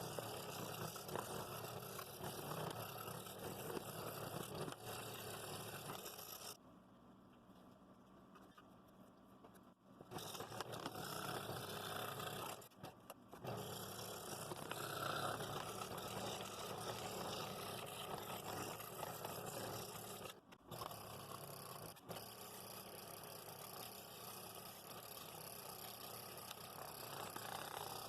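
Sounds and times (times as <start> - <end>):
scroll saw cutting wood: 0.0 - 6.6, 10.1 - 28.0.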